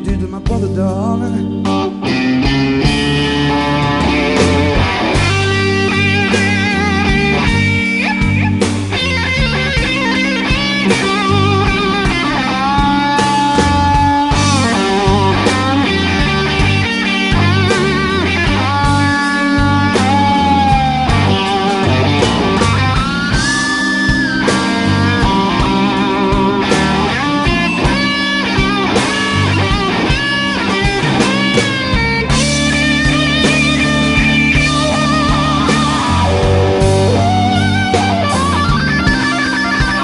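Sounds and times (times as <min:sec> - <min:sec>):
blues band playing: 0:00.0 - 0:40.0
lead electric guitar bent notes: 0:00.0 - 0:40.0.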